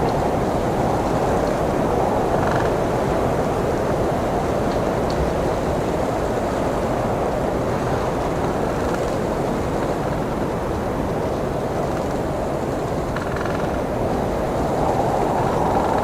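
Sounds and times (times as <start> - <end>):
strong blizzard wind: 0.0 - 16.0.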